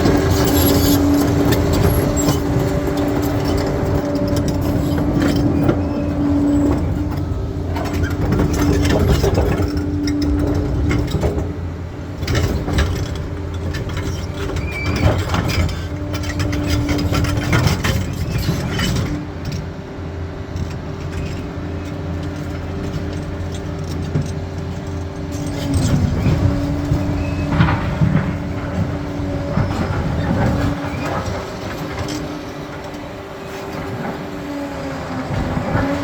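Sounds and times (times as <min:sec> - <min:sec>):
steel tracks clattering: 0:00.0 - 0:19.6, 0:21.0 - 0:36.0
bulldozer diesel engine under load: 0:00.0 - 0:36.0.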